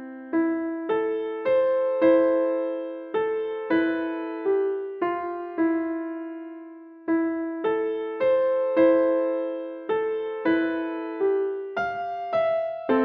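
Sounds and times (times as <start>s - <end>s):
slow solo piano melody: 0.0s - 13.0s.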